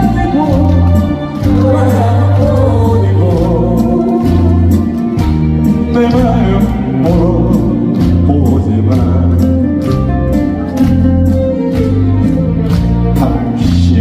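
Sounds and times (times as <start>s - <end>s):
trot song with live band: 0.0s - 14.0s.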